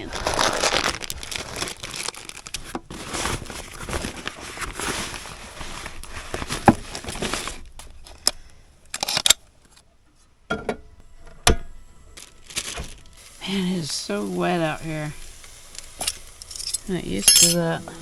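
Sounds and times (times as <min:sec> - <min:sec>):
plastic packaging crinkling: 0:00.0 - 0:09.8, 0:12.0 - 0:17.5.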